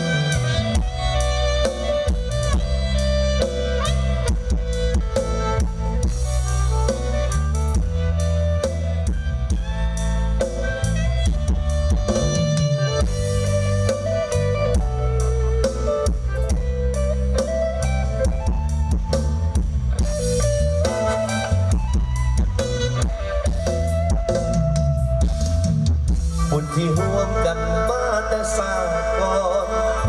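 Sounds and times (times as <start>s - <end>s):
live band music over loudspeaker: 0.0s - 30.0s.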